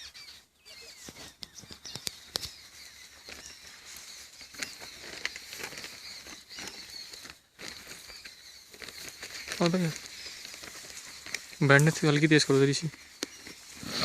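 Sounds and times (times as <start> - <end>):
rustling: 0.9 - 14.0.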